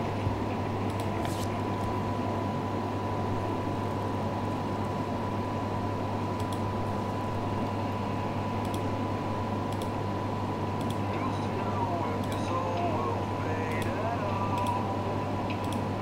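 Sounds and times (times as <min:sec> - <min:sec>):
room noise hiss and hum: 0:00.0 - 0:16.0.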